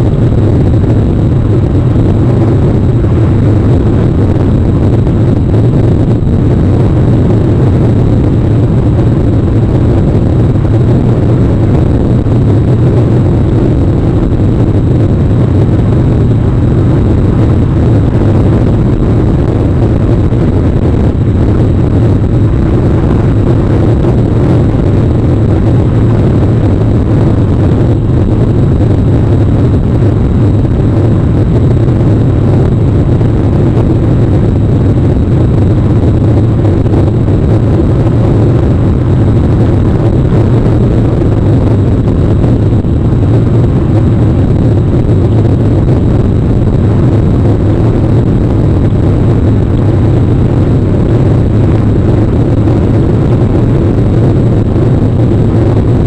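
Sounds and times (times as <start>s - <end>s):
rain rumbling on microphone: 0.0s - 56.0s.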